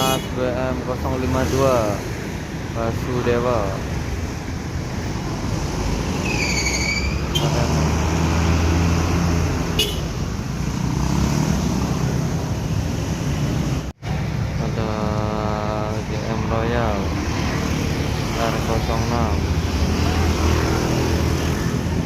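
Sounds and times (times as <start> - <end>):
bus engine passing: 0.0 - 22.0.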